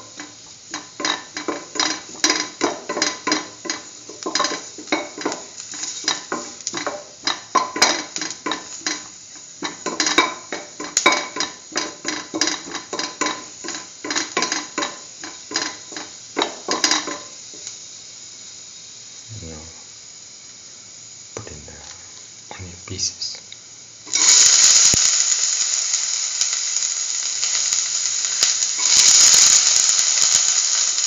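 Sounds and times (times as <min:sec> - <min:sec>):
faint oil sizzle: 0:00.0 - 0:31.0.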